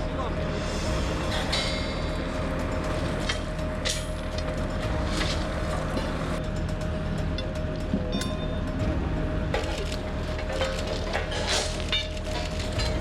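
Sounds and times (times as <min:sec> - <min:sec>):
heavy machinery engine drone: 0:00.0 - 0:13.0.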